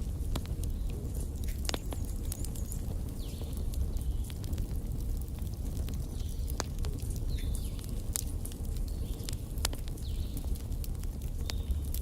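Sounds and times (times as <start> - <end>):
fire flames rumbling: 0.0 - 12.0
logs crackling and popping: 0.0 - 12.0.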